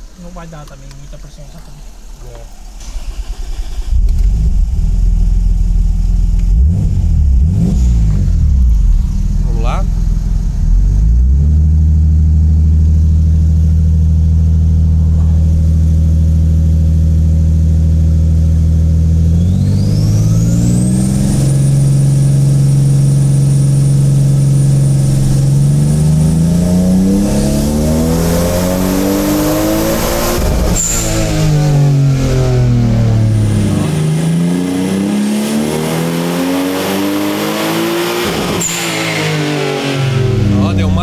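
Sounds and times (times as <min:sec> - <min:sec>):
high turbo whine: 0:00.0 - 0:41.0
car engine running on dyno: 0:02.8 - 0:41.0.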